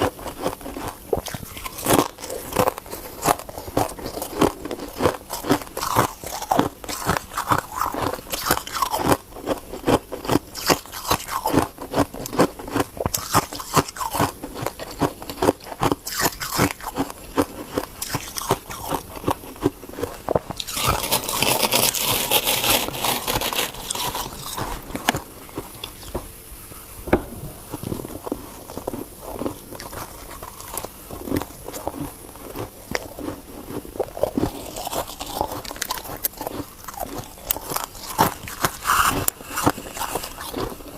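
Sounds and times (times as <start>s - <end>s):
ice crunching between teeth: 0.0s - 26.2s, 27.7s - 40.9s.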